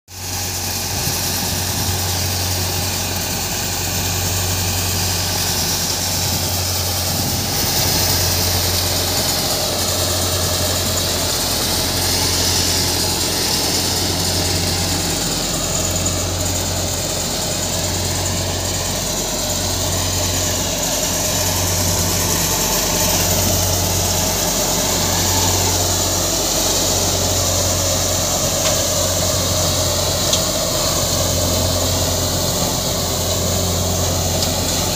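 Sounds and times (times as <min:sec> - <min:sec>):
threshing machine hiss: 0:00.1 - 0:34.9
tractor engine humming: 0:00.1 - 0:34.9.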